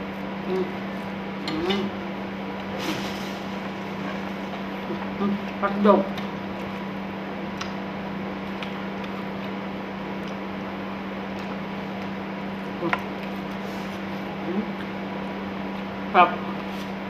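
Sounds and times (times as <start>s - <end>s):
appliance electrical hum: 0.0s - 17.0s.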